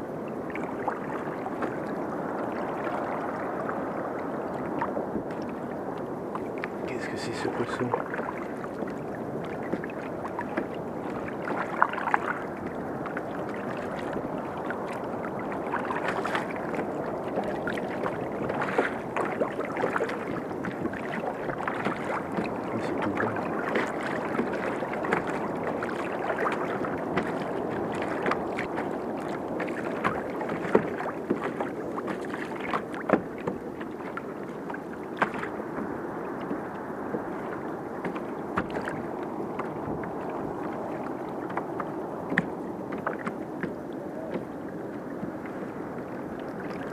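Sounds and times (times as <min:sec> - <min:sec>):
water lapping against kayak hull: 0:00.0 - 0:46.9.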